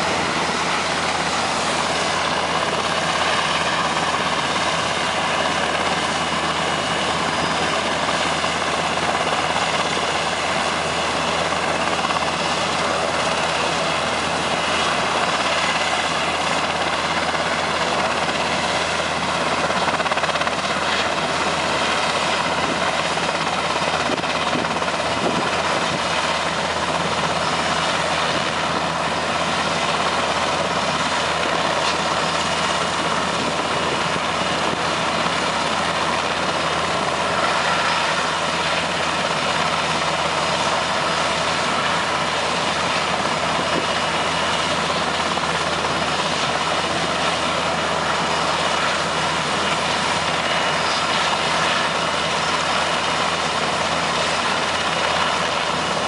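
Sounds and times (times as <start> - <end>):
helicopter turbines and rotor: 0.0 - 56.0.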